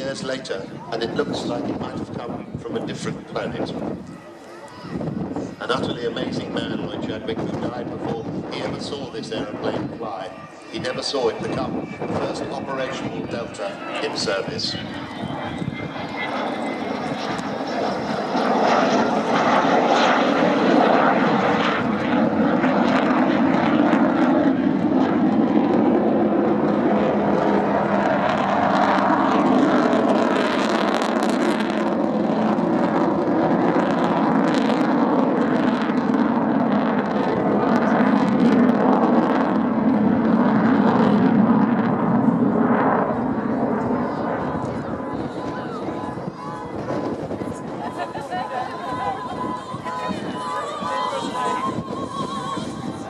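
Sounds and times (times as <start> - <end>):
jet bomber flying over: 0.0 - 53.0.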